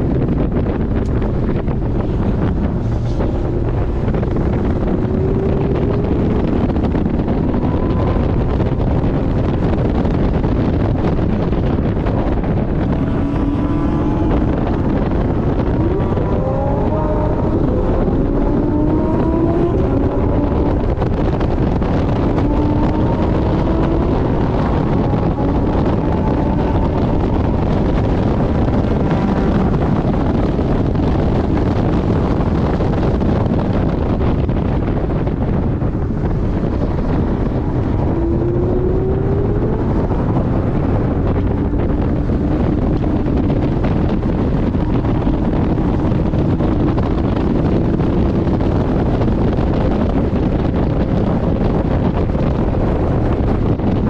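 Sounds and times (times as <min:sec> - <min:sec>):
wind and road noise: 0:00.0 - 0:54.0
car engine revving and shifting: 0:00.2 - 0:54.0.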